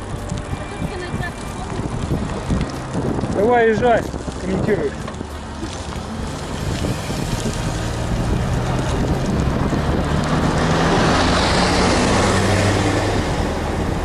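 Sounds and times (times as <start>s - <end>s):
bus passing: 0.0s - 14.0s
wind rushing over microphone: 0.0s - 14.0s.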